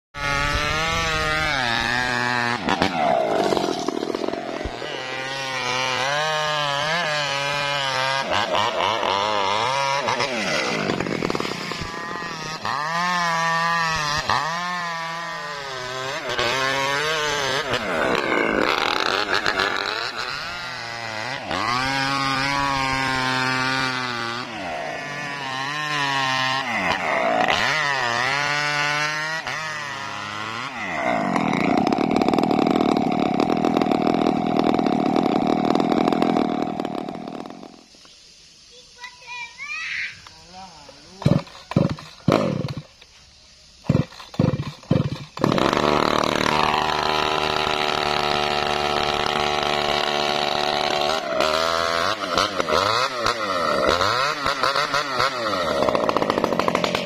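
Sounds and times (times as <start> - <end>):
chainsaw cutting wood: 0.2 - 38.2, 40.9 - 57.0.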